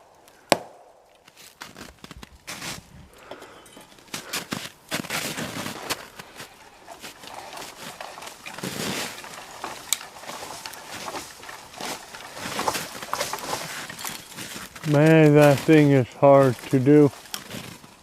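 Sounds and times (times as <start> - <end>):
branches cracking and snapping: 0.0 - 18.0
brush rustling: 1.1 - 18.0.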